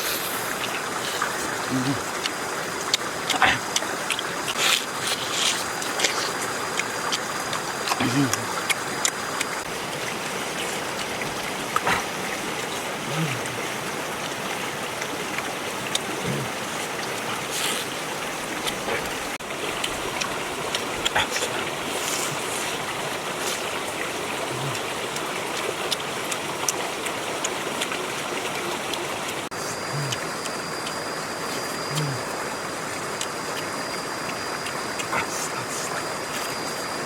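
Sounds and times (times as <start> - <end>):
water flowing: 0.0 - 37.0.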